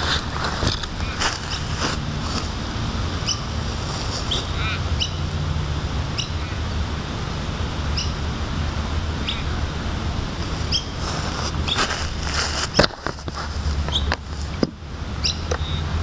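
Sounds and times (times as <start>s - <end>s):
birds calling: 0.0s - 5.4s, 6.1s - 6.7s, 7.9s - 8.3s, 9.2s - 16.0s
steady low rumble: 0.0s - 16.0s.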